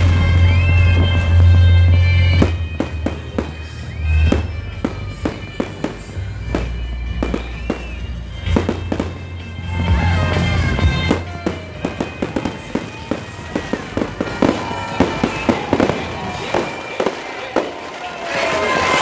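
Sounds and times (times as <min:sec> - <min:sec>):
fireworks bangs and cracks: 0:00.0 - 0:19.0
music playing: 0:00.0 - 0:19.0.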